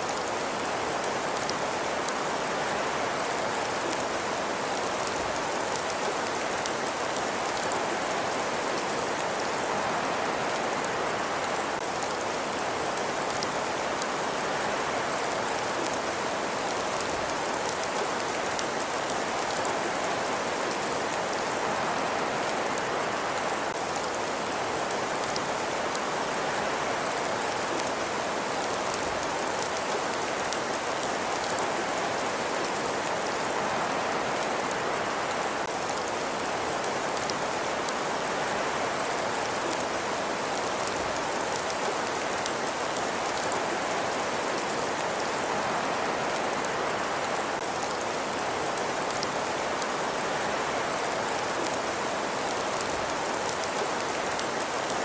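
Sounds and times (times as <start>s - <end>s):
rain-like hiss: 0.0s - 55.0s.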